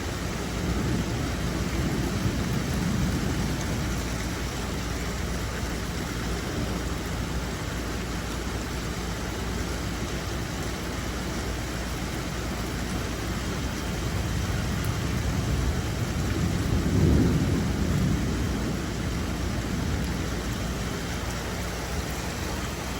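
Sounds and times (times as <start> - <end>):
steady rain: 0.0 - 22.9.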